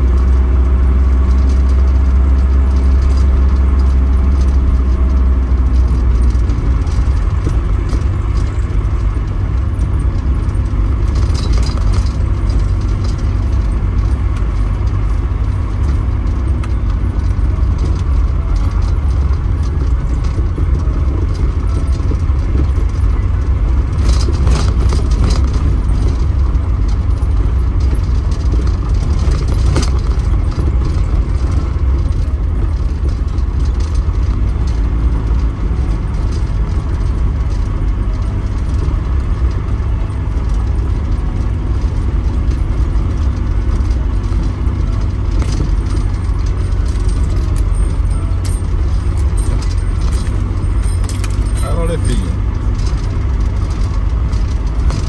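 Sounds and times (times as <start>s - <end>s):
engine and road rumble: 0.0s - 55.0s
loose things rattling: 0.0s - 55.0s.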